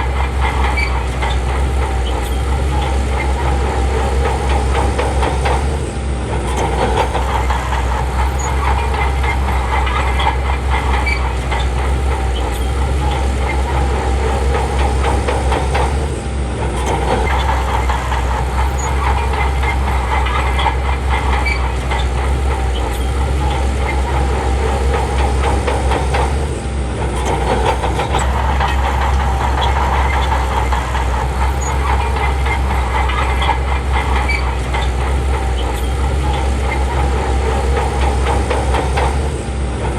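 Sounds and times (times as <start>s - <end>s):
bulldozer diesel engine droning: 0.0s - 39.9s
tracks clattering: 0.0s - 39.9s.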